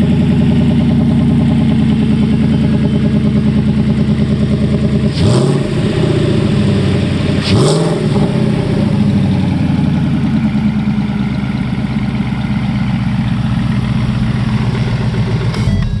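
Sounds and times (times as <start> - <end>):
car engine idling: 0.0 - 16.0
engine throttle blip: 0.0 - 16.0.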